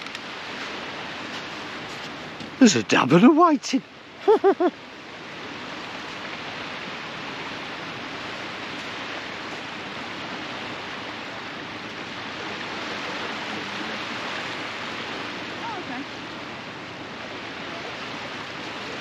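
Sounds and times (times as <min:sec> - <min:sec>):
sea surf: 0:00.0 - 0:19.0
wind: 0:00.0 - 0:19.0.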